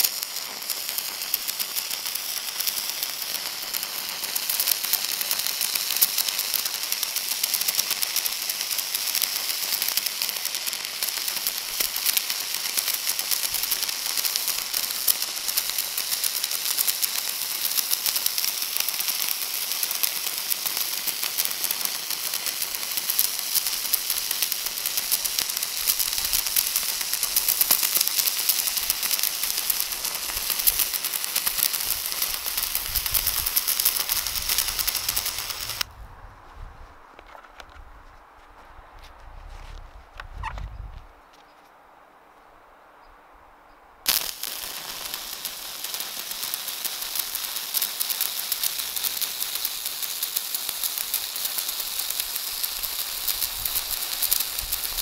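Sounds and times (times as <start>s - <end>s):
welding arc crackling: 0.0s - 35.9s, 44.1s - 55.0s.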